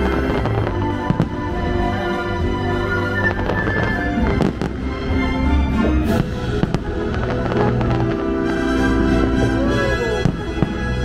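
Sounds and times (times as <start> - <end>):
fireworks bangs and pops: 0.0 - 11.0
music: 0.0 - 11.0.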